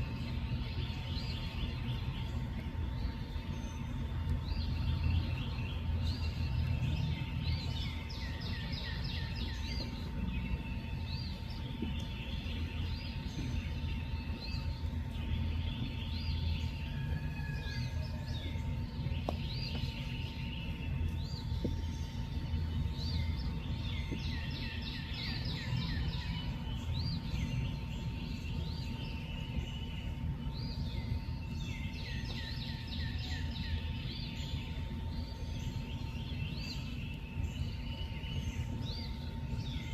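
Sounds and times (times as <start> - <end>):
faint constant tone: 0.0 - 39.9
steady low rumble: 0.0 - 39.9.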